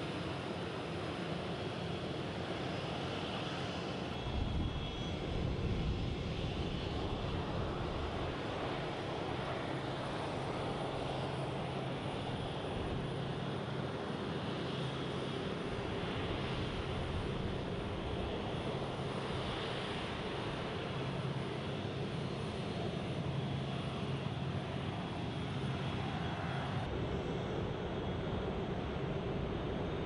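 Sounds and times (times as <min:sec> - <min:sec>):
jet engines rumbling with whine: 0:00.0 - 0:30.0.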